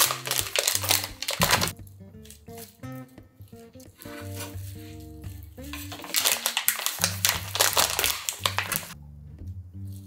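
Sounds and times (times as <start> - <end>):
plastic crinkling: 0.0 - 2.8, 3.5 - 9.0
soft background music: 0.0 - 10.0.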